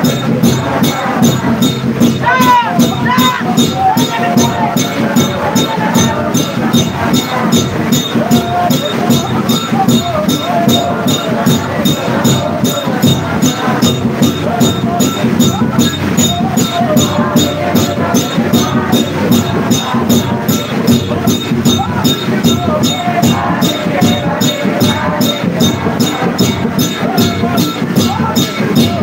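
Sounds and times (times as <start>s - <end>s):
clapping and percussion beat: 0.0s - 29.0s
congregation singing: 0.0s - 29.0s.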